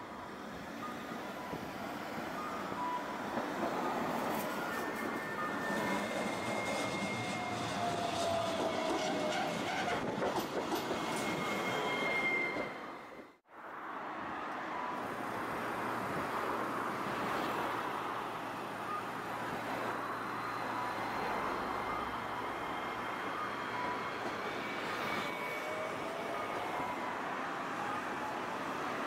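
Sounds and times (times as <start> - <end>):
city road traffic: 0.0 - 29.0
tram running: 0.1 - 13.4, 14.8 - 28.4.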